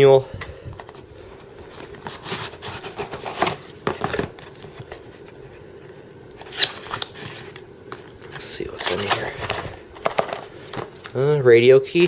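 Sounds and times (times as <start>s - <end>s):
faint steady hum: 0.0s - 12.0s
box rustling and scraping: 0.7s - 11.1s.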